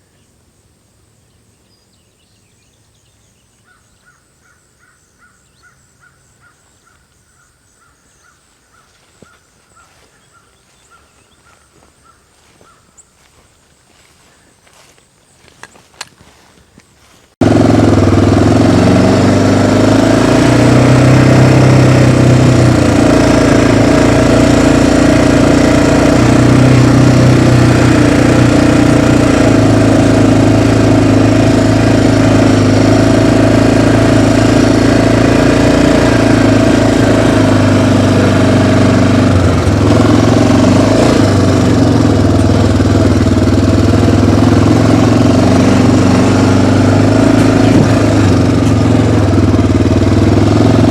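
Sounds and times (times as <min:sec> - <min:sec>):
small vehicle engine running: 0:08.8 - 0:50.9.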